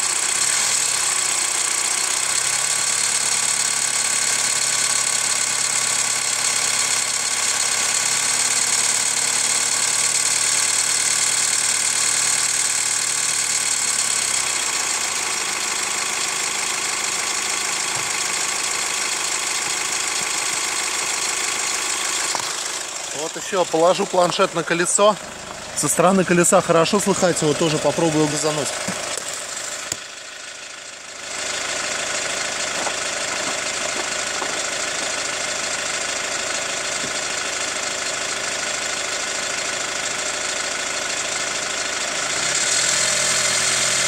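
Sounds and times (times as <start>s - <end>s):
diesel engine running: 0.0s - 44.0s
rhythmic engine knock: 0.0s - 44.0s.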